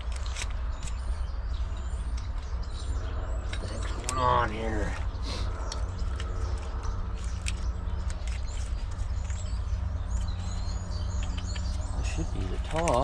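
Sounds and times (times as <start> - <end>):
birds chirping: 0.0 - 13.0
low rumble and hum: 0.0 - 13.0.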